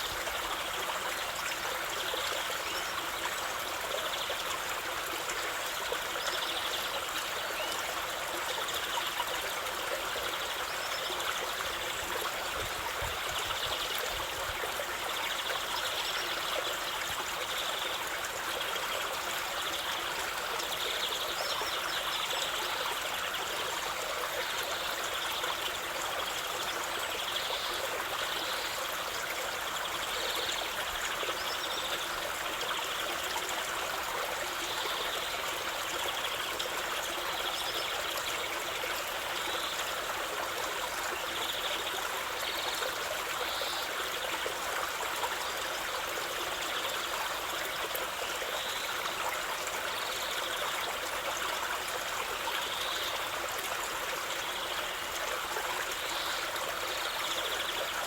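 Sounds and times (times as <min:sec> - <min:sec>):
stream trickling and splashing: 0:00.0 - 0:58.0.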